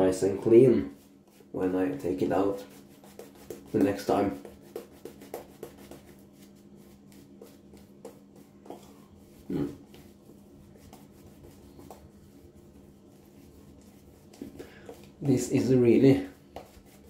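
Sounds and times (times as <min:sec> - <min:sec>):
faint steady hum: 0:00.0 - 0:17.0
shaving brush strokes on face: 0:00.9 - 0:17.0.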